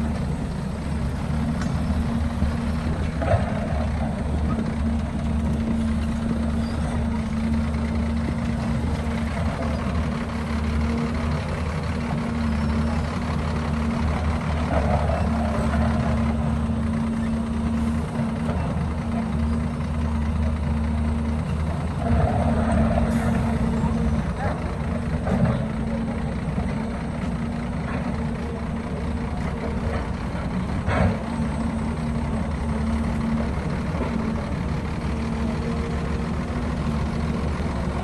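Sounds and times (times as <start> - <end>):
heavy diesel engine running: 0.0 - 38.0.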